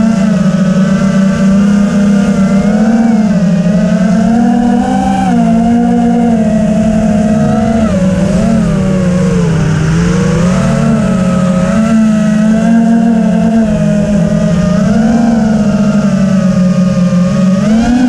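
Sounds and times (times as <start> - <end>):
drone propellers whining: 0.0 - 18.0
low rumble: 0.0 - 18.0.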